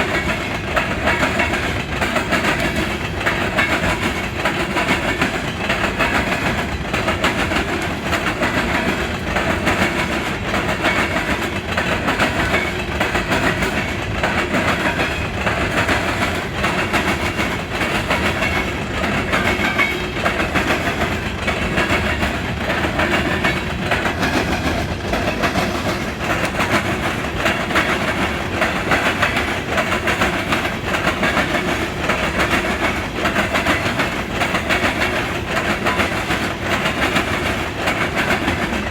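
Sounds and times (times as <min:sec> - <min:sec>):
train wheels clattering over crossing: 0:00.0 - 0:38.9.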